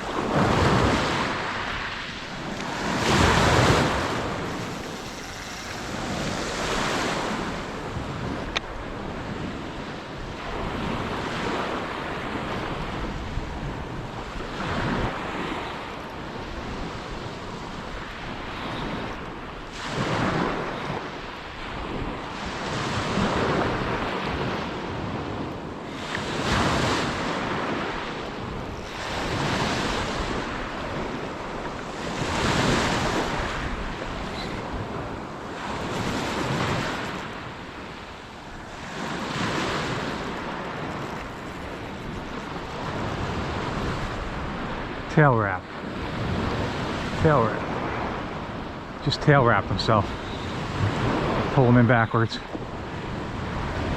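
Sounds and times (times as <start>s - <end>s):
surf breaking on a beach: 0.0s - 53.9s
wind buffeting the microphone: 0.0s - 53.9s.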